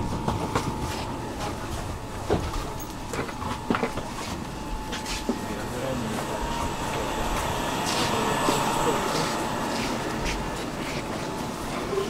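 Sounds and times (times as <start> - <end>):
train and station hum: 0.0 - 12.0.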